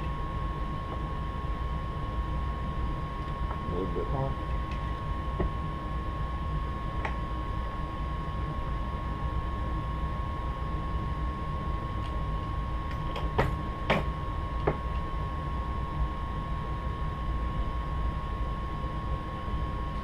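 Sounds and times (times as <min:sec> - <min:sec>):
workshop hum: 0:00.0 - 0:20.0.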